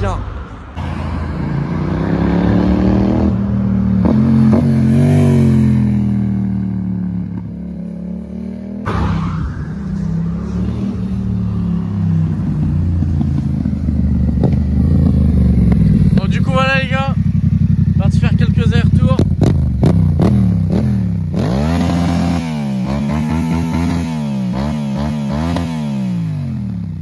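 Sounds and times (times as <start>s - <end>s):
motorcycle engine revving hard: 1.4s - 27.0s.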